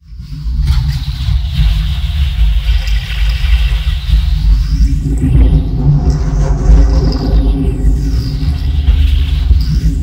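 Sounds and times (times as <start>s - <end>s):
deep wavering rumble: 0.4s - 10.0s.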